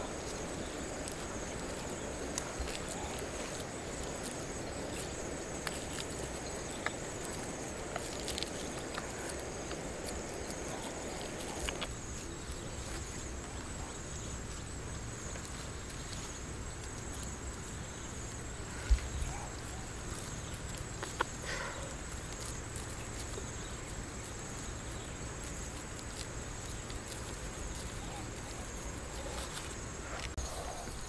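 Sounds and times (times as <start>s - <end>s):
insects trilling: 0.0s - 31.0s
low rustling haze: 0.0s - 31.0s
wet mud handled in grass: 0.0s - 31.0s.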